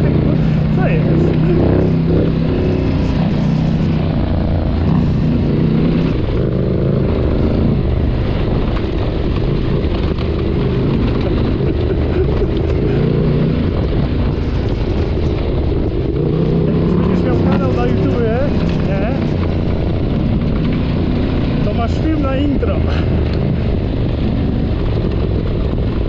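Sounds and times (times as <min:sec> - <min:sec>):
motorcycle engine running: 0:00.0 - 0:26.0
rushing noise: 0:00.0 - 0:26.0.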